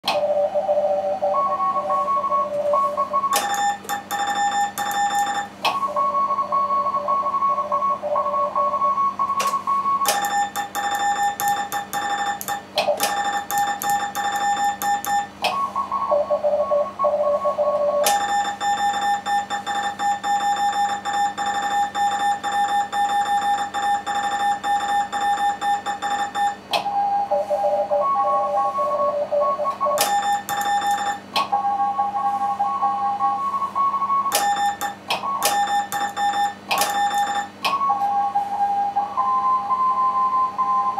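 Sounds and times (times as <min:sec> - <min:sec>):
low mains hum: 0:00.1 - 0:40.9
buzzy morse tone: 0:00.2 - 0:40.9
morse code tones: 0:00.2 - 0:40.9.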